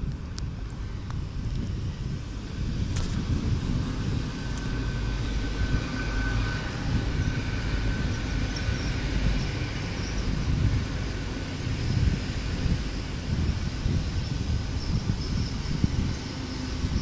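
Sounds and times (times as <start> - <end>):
faint high whine: 0.0 - 17.0
train low rumble: 0.0 - 17.0.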